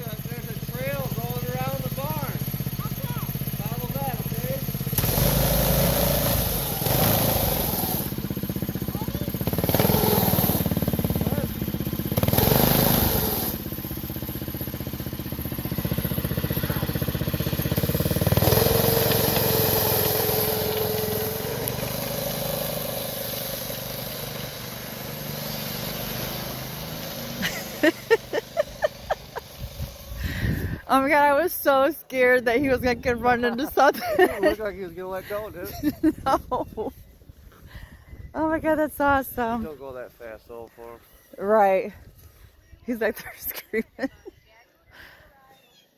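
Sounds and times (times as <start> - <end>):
snowmobile engine revving: 0.0 - 36.9.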